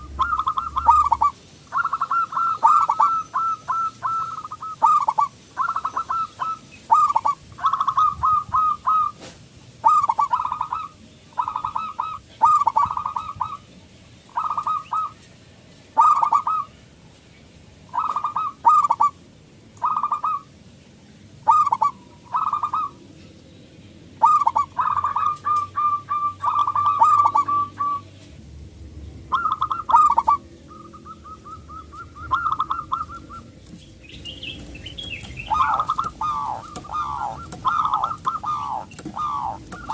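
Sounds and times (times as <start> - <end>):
dove cooing: 0.0 - 13.7, 14.3 - 15.2, 16.0 - 16.8, 17.9 - 19.2, 19.8 - 20.5, 21.4 - 23.0, 24.2 - 28.1, 29.3 - 39.9.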